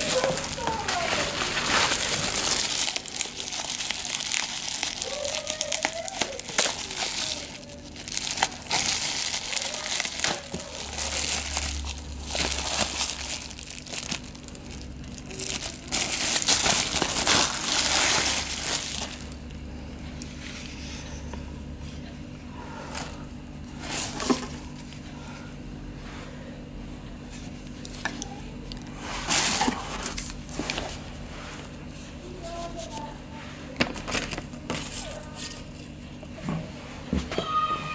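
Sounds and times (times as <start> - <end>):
bubble wrap crinkling: 0.0 - 21.3, 22.8 - 25.1, 27.4 - 33.1, 33.7 - 36.1.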